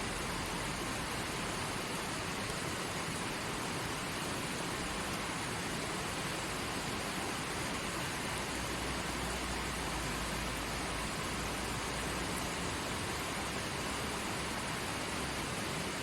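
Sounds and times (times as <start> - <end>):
creek water flowing: 0.0 - 16.0.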